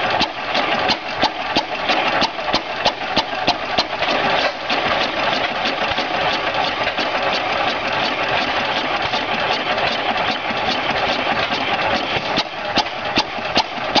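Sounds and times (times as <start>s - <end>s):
stationary engine clattering and popping: 0.0s - 14.0s.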